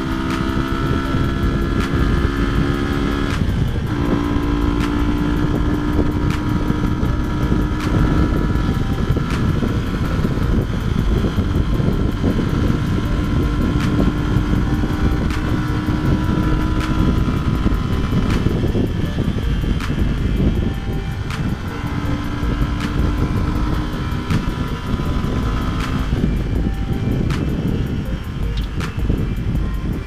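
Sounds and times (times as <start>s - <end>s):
motorcycle engine cruising: 0.0s - 30.0s
road noise: 0.0s - 30.0s
wind rush on microphone: 0.0s - 30.0s.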